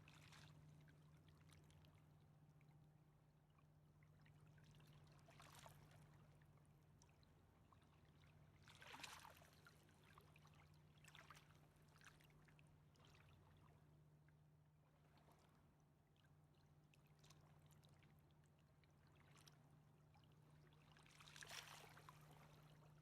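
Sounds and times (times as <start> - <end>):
river water lapping and splashing: 0.0 - 2.2, 4.0 - 13.8, 14.9 - 23.0.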